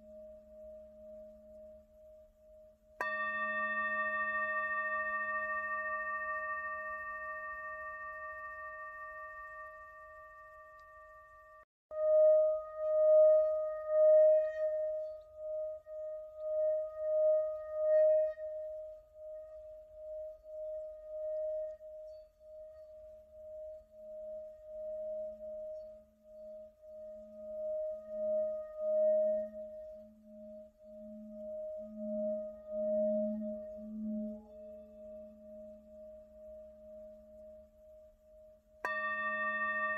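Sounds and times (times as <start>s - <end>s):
singing bowl ringing: 0.0s - 39.9s.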